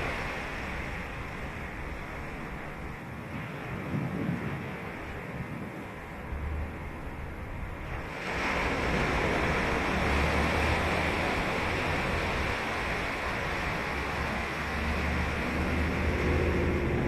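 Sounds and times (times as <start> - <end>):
ocean surf on sandy beach: 0.0 - 17.0
wind rumbling on microphone: 0.0 - 17.0.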